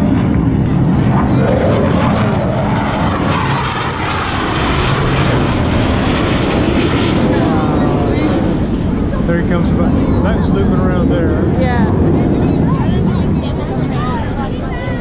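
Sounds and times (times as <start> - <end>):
aircraft engines flying past: 0.0 - 15.0.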